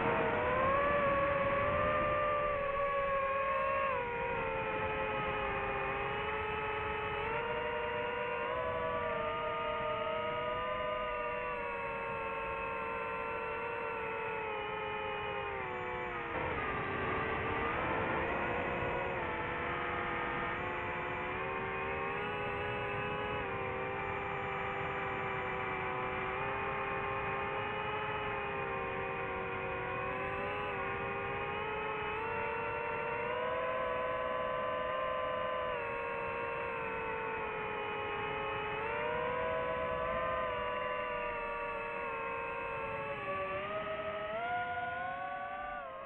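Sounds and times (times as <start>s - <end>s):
drone motors whining: 0.0s - 46.0s.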